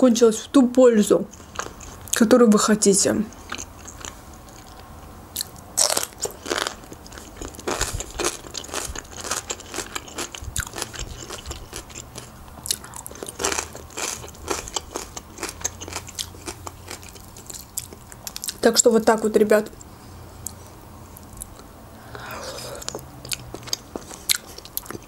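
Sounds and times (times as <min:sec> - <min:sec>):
person chewing crunchy food: 0:01.3 - 0:02.2, 0:03.3 - 0:18.6, 0:20.4 - 0:25.0.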